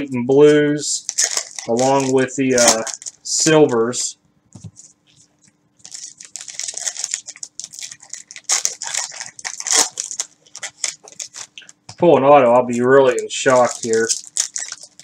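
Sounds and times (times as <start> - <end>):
plastic wrapper crinkling: 1.0 - 12.1, 12.7 - 15.0.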